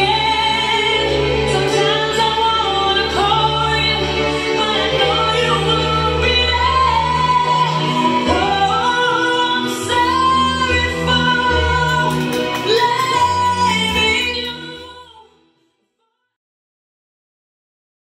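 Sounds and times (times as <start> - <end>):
slow pop song: 0.0 - 15.8
woman singing: 0.0 - 16.4.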